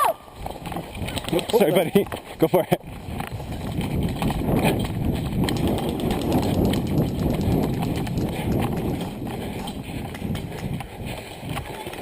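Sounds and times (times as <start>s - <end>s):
footsteps running on rough ground: 0.1s - 12.0s.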